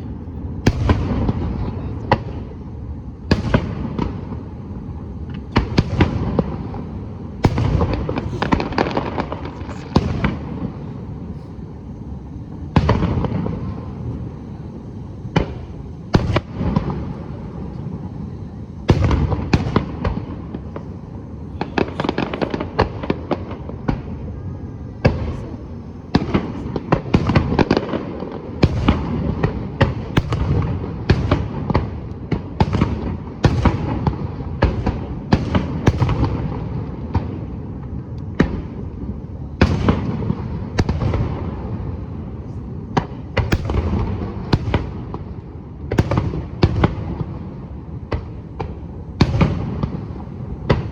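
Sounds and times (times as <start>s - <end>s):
fireworks booming: 0.0s - 50.9s.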